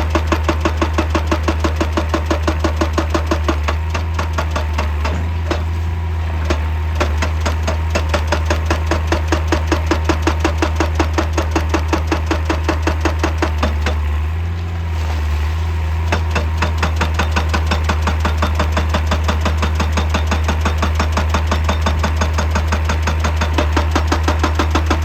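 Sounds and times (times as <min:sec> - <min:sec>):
hydraulic breaker hammering rock: 0:00.0 - 0:14.9, 0:16.0 - 0:25.0
diesel engine running: 0:00.0 - 0:25.0.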